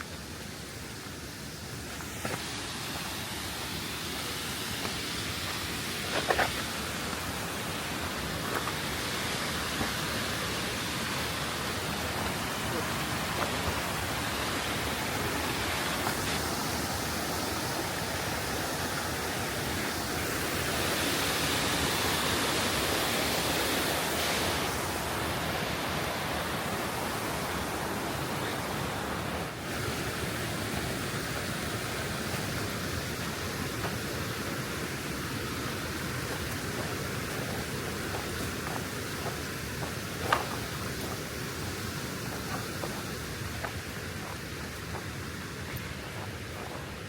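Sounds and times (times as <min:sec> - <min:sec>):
mountain creek water rushing: 0:00.0 - 0:47.0.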